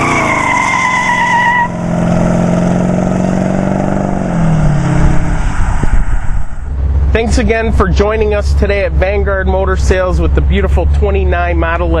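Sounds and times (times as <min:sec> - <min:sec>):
engine accelerating hard: 0:00.0 - 0:12.0.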